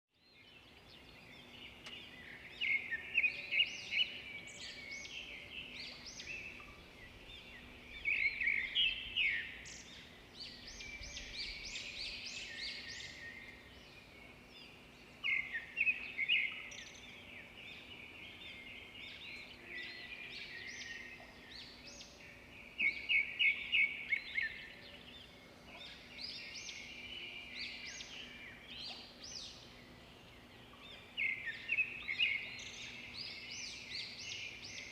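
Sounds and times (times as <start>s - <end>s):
birds singing: 0.2s - 34.9s.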